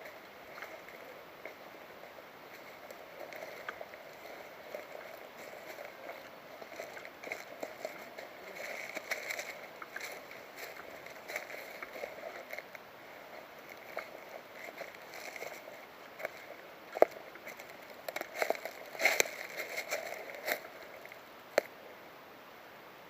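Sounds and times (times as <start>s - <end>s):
rustling and crunching handling noise: 0.0s - 21.8s.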